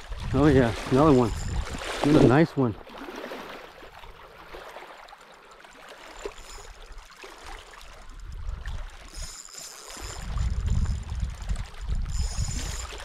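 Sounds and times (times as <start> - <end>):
water lapping and trickling: 0.0 - 13.0.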